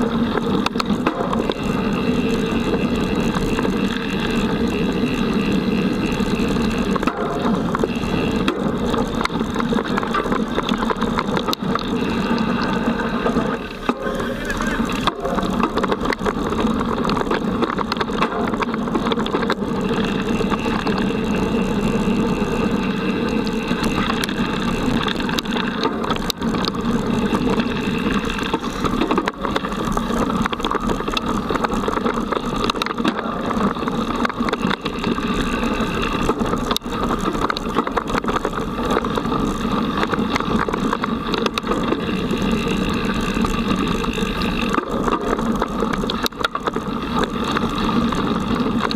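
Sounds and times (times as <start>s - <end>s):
bike rattles and clicks: 0.0s - 48.9s
bike tyres rumbling on dirt: 0.0s - 48.9s.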